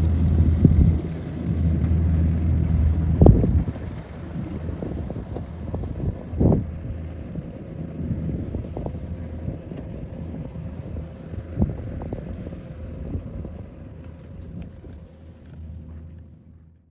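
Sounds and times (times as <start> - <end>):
wind buffeting microphone: 0.0 - 15.8
diesel engine humming: 0.0 - 16.9.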